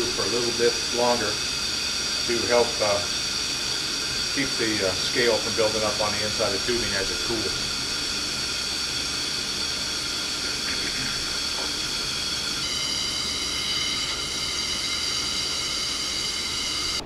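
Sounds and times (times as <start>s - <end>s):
gas hissing through pipe: 0.0s - 17.0s
thin whistling tones: 0.0s - 17.0s.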